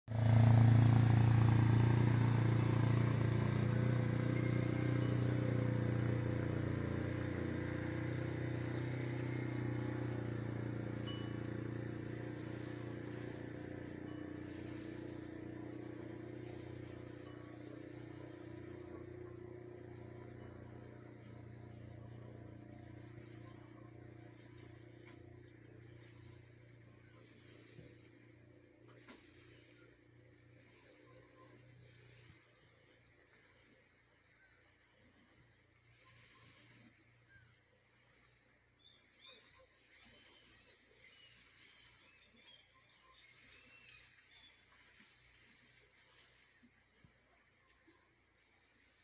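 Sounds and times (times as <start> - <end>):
engine humming: 0.0 - 39.3.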